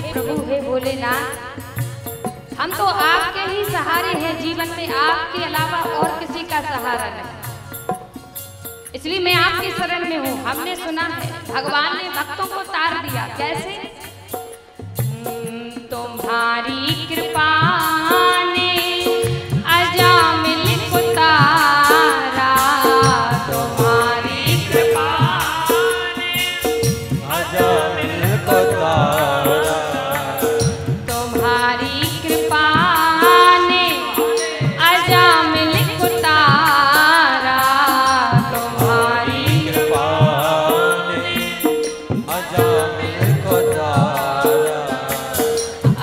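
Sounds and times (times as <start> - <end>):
woman singing devotional song: 0.0 - 8.0, 8.8 - 46.0
instrumental accompaniment with beat: 0.0 - 46.0.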